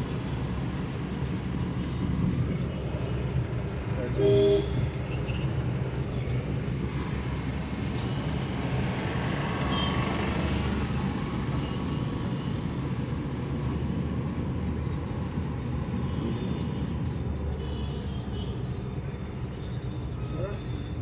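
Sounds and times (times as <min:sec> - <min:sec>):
car cabin road and engine noise: 0:00.0 - 0:21.0.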